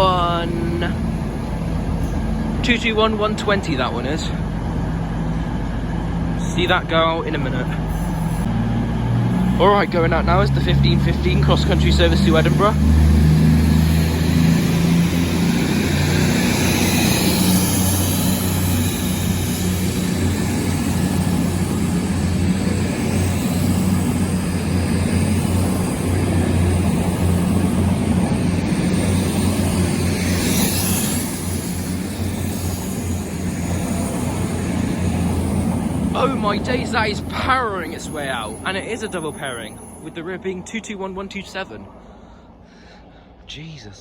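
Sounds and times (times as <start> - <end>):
diesel train engines droning: 0.0 - 44.0.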